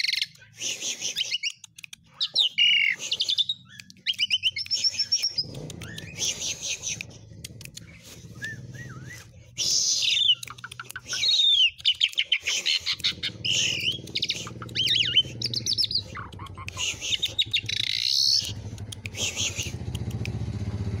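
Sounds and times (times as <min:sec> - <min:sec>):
starling singing: 0:00.0 - 0:19.8.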